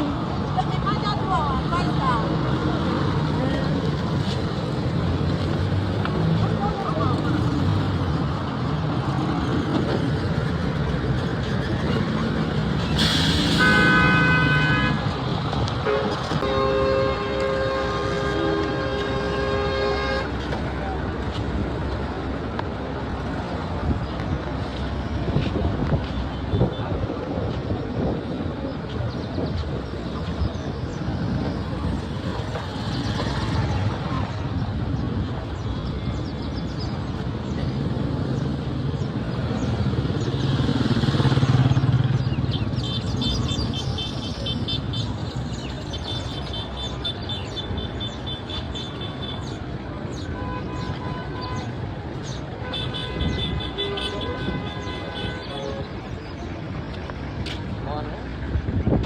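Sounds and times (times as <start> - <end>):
cars and motorcycles passing: 0.0 - 59.0.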